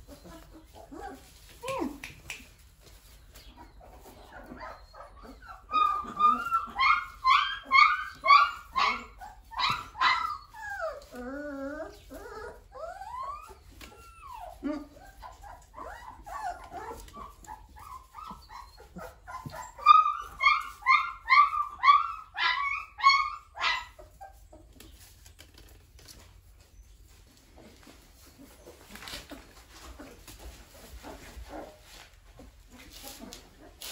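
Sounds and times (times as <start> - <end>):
puppies yelping and whining: 0.0 - 2.0, 2.9 - 33.9.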